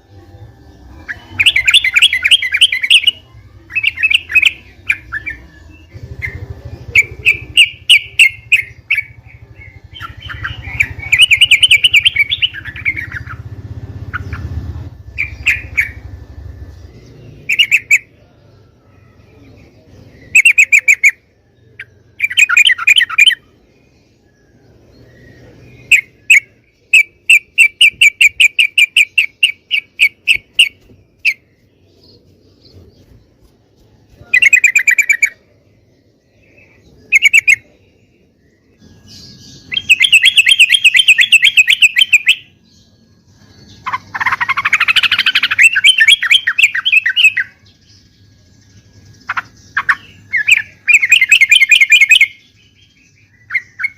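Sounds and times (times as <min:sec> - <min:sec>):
bulbul chattering song: 0:00.0 - 0:53.9.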